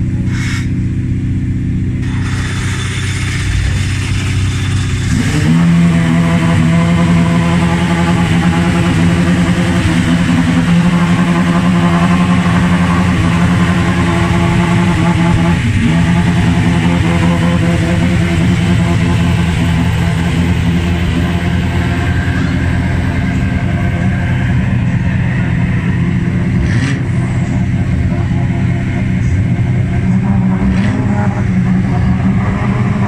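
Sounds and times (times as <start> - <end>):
race car engine idling fast: 0.0 - 33.0.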